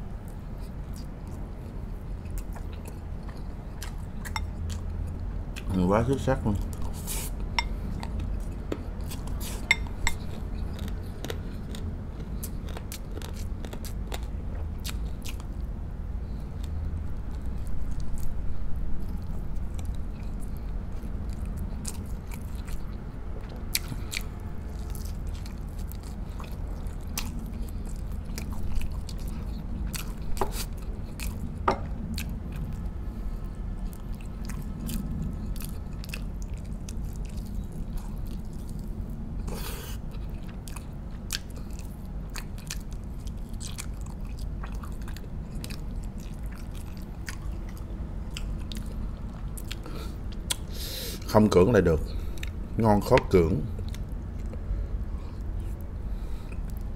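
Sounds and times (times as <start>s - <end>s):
person chewing ribs: 0.1s - 51.3s, 52.1s - 56.9s.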